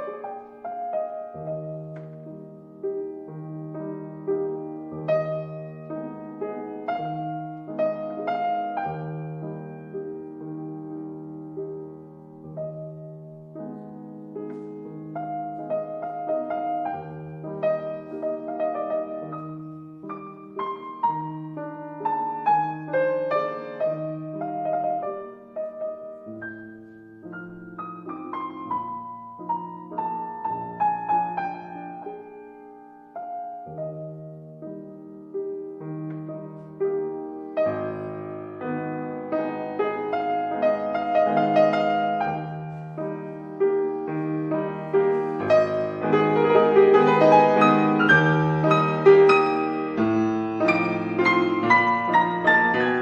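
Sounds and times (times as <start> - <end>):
slow piano melody: 0.0 - 53.0.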